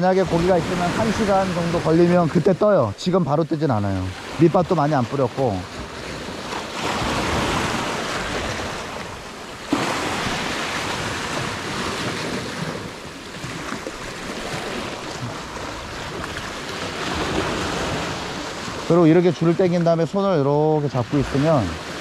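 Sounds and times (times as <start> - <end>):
surf on rocky shore: 0.0 - 22.0.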